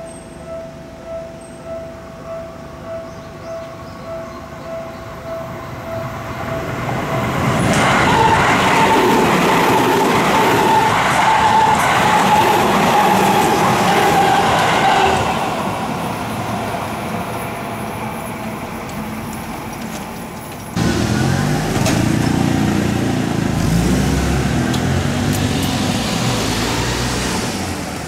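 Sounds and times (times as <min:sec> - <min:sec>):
level-crossing warning bell: 0:00.0 - 0:23.4
electric train passing: 0:00.0 - 0:28.0.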